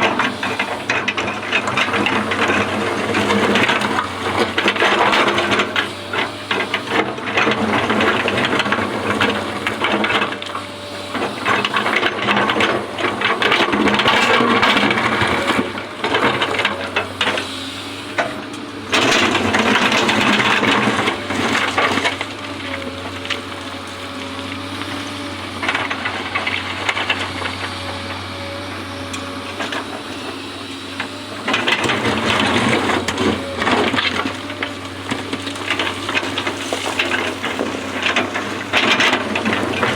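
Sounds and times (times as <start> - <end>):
diesel engine running: 0.0 - 39.9
excavator clattering and scraping: 0.0 - 39.9.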